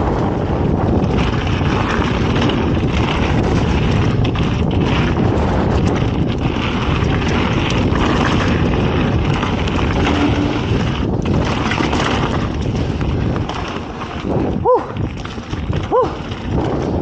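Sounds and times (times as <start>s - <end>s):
bike clicks and rattles: 0.0s - 17.0s
tyres rumbling on dirt trail: 0.0s - 17.0s
wind rushing over microphone: 0.0s - 17.0s.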